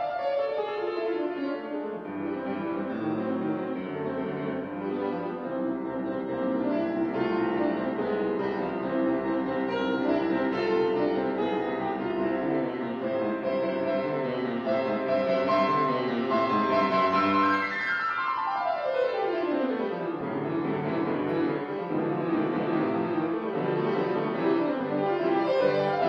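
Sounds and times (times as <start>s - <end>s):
solo grand piano: 0.0s - 26.0s.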